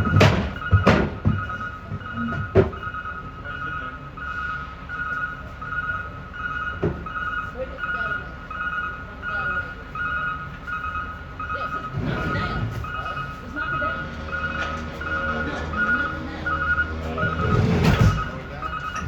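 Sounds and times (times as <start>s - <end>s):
two-tone electronic beeping: 0.0s - 19.0s.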